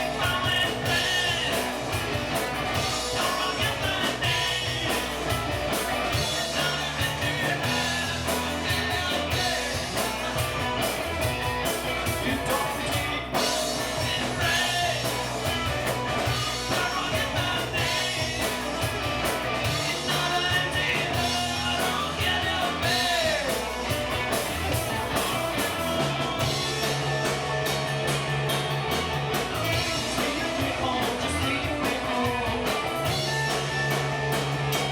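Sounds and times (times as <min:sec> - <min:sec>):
rock music with singer: 0:00.0 - 0:34.9.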